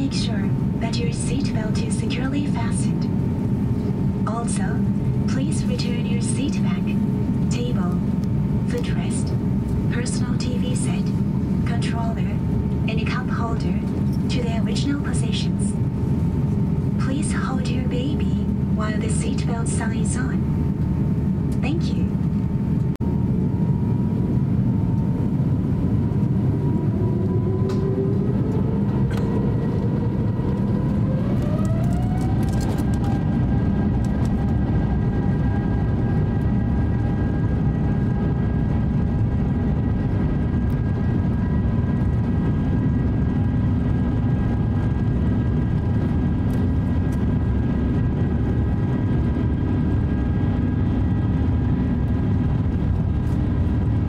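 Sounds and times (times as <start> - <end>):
jet engines whining: 0.0 - 54.0
low engine rumble: 0.0 - 54.0.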